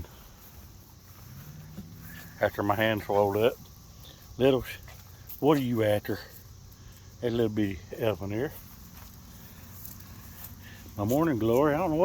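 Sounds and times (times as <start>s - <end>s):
faint high insect chirring: 0.0s - 12.0s.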